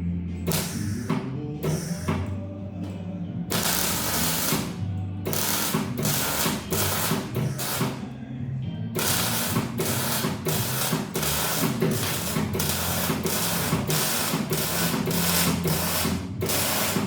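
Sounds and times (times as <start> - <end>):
music playing: 0.0 - 17.0
welding arc crackling and hissing: 0.5 - 2.1, 3.5 - 8.0, 9.0 - 17.0.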